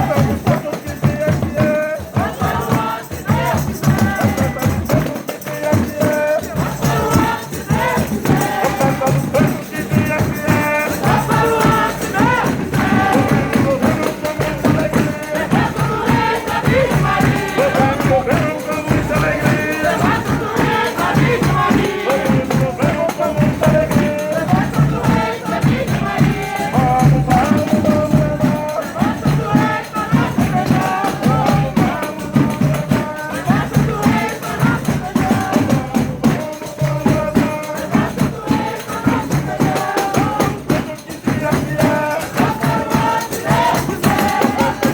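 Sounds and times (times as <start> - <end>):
group of voices singing: 0.0 - 44.9
tambourines shaking a beat: 0.0 - 44.9.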